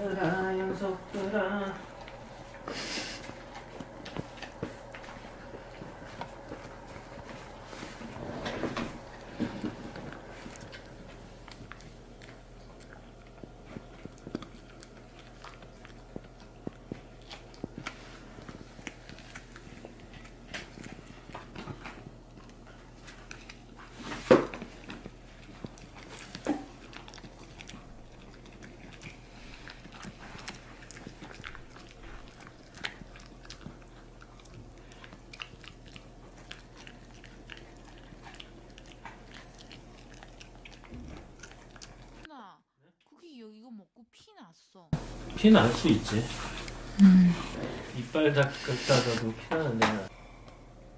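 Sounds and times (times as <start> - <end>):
puppy chewing hard snack: 0.0 - 42.3, 45.0 - 50.1.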